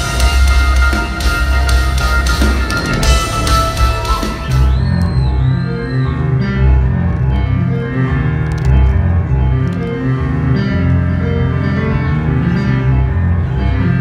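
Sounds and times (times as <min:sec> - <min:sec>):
keyboard playing organ and piano tones: 0:00.0 - 0:14.0.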